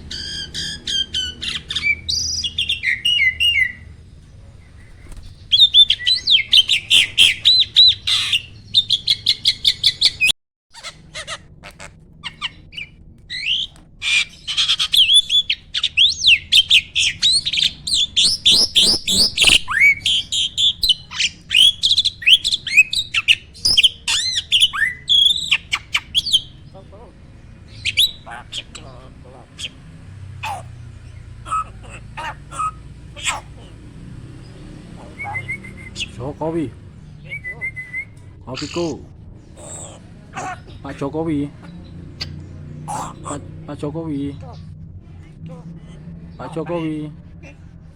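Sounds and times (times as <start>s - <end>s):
starling chattering song: 0.0s - 47.9s.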